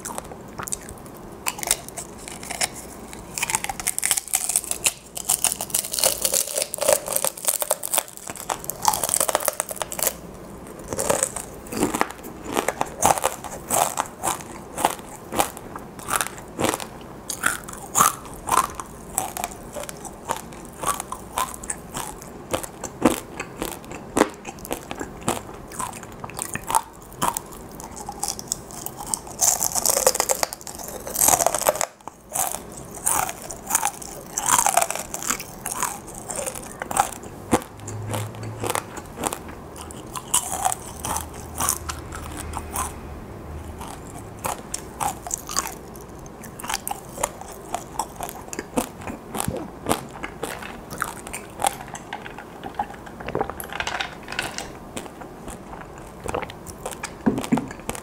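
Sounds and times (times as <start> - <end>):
crunching and chewing crisp chips: 0.0 - 58.0.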